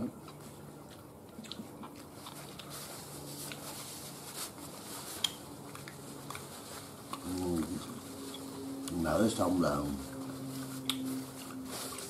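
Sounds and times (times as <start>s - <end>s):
person chewing chicken: 0.0s - 9.0s, 10.0s - 12.0s
low steady hum: 0.0s - 12.0s.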